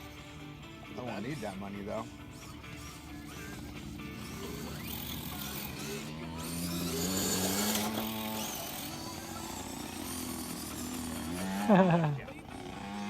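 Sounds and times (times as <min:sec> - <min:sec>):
toy car electric motor whining: 0:00.0 - 0:13.0.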